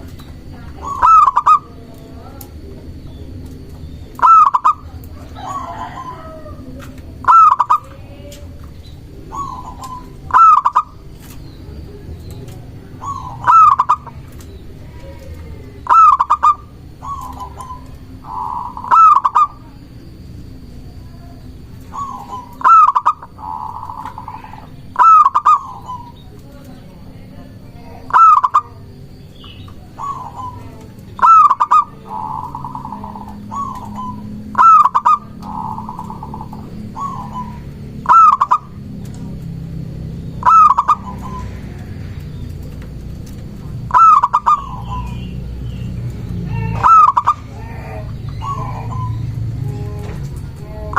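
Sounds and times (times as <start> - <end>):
dove cooing: 0.0 - 50.9
soft rolling bird trill: 0.0 - 50.9.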